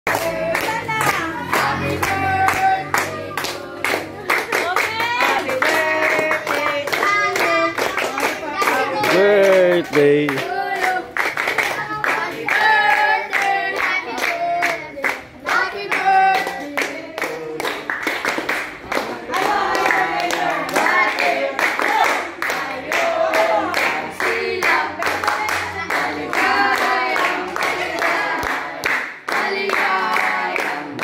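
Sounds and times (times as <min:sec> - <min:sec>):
people clapping in time: 0:00.1 - 0:31.0
people singing together: 0:00.1 - 0:31.0.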